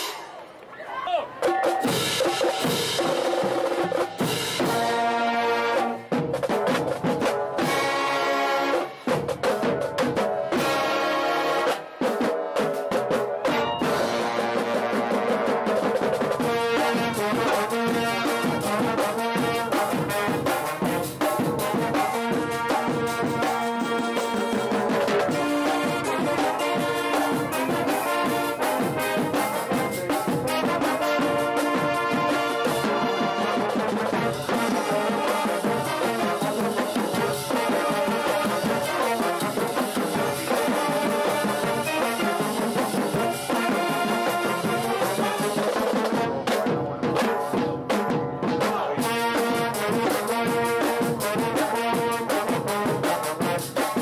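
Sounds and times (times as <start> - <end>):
drums beating: 0.0 - 54.0
brass horns playing a tune: 4.2 - 6.2, 7.6 - 9.1, 10.5 - 12.1, 13.4 - 46.7, 49.0 - 54.0.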